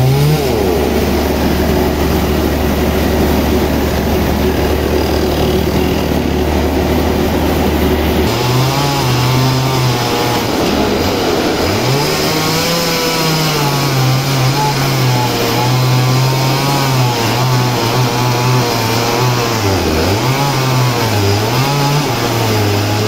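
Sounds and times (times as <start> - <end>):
chainsaw cutting log: 0.0 - 23.0.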